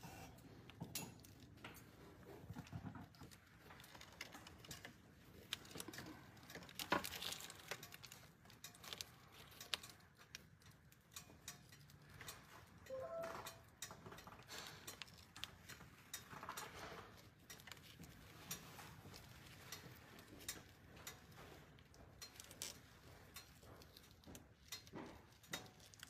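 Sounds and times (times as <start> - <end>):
small clicks and crinkles of foil: 0.0 - 26.0.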